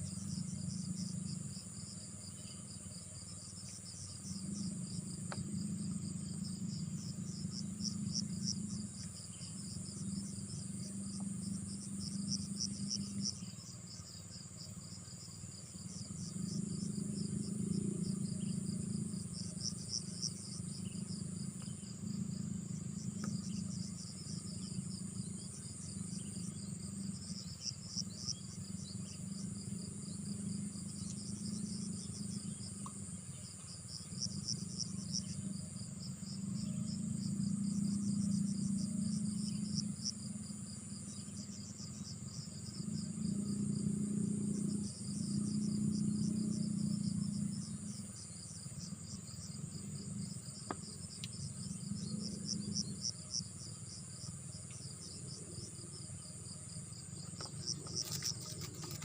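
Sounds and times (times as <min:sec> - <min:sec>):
crickets chirping: 0:00.0 - 0:59.0
low droning hum: 0:00.0 - 0:59.0.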